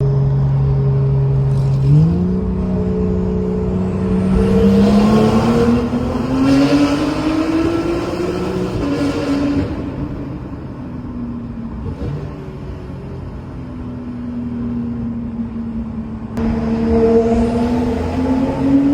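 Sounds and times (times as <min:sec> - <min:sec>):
car engine accelerating: 0:00.0 - 0:14.3, 0:15.8 - 0:18.9.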